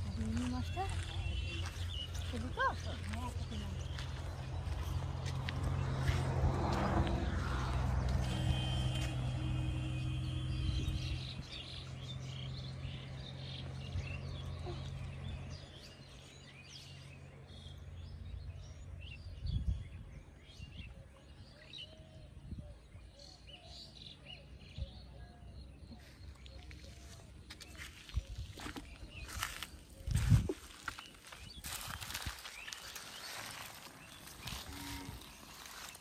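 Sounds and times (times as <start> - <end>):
small birds chirping: 0.0 - 6.3, 8.2 - 36.0.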